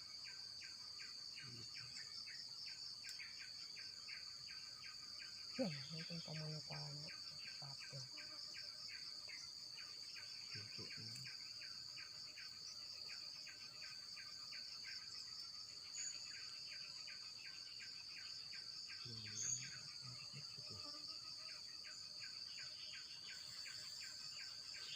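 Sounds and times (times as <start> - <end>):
insect chirping: 0.0 - 24.9
insect drone: 0.0 - 24.9.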